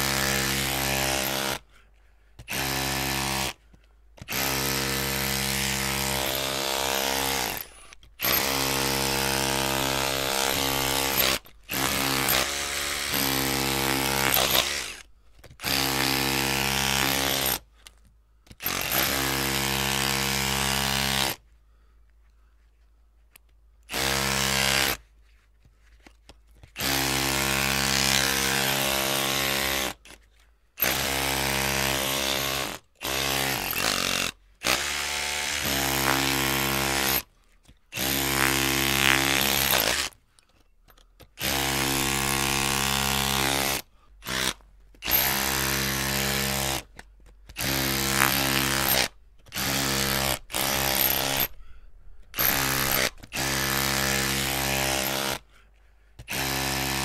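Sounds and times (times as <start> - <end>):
power drill whirring: 0.0 - 1.6, 2.4 - 3.6, 4.2 - 17.6, 18.5 - 21.4, 23.9 - 25.0, 26.7 - 37.3, 37.9 - 40.2, 40.9 - 55.4, 56.2 - 57.0.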